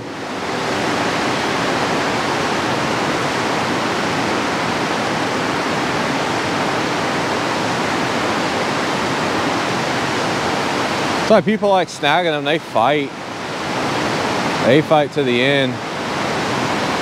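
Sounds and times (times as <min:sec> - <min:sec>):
water rushing through spillway: 0:00.0 - 0:17.0.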